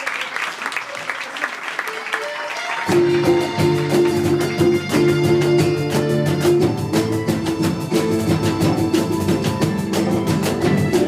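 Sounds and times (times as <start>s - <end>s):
small band playing strings and percussion: 2.1s - 11.0s.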